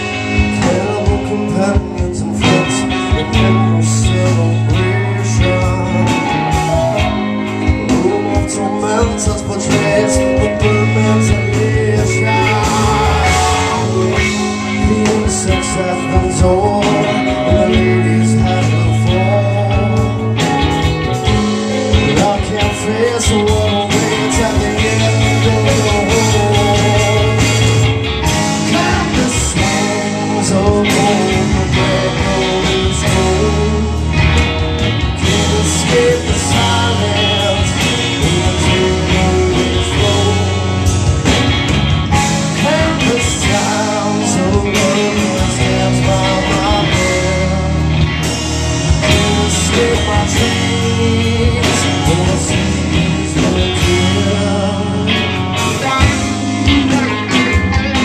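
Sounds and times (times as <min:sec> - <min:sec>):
person singing: 0:00.0 - 0:41.5, 0:42.1 - 0:58.0
live rock band playing: 0:00.0 - 0:58.0.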